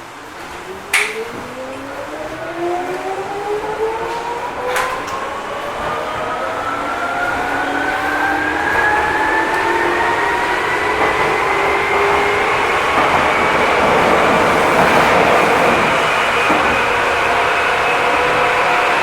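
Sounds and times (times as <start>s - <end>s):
train rumble: 0.0s - 19.0s
electric train motors whining: 0.2s - 19.0s.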